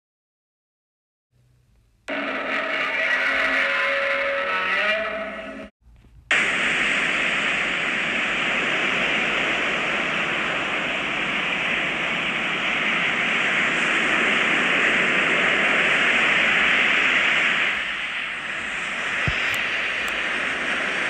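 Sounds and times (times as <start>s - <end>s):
steady rushing noise: 2.1s - 21.0s.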